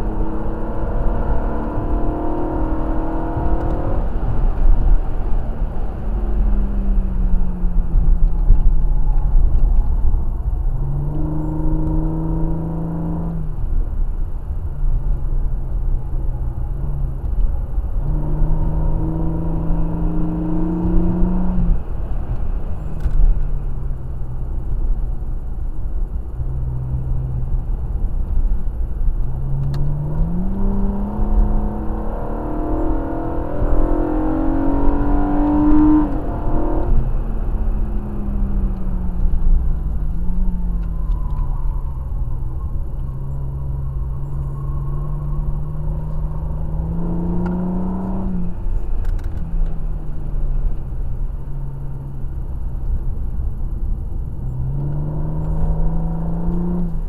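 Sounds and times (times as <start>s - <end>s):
car engine revving: 0.0s - 13.8s, 16.0s - 24.7s, 26.2s - 57.0s
road and wind rumble: 0.0s - 57.0s.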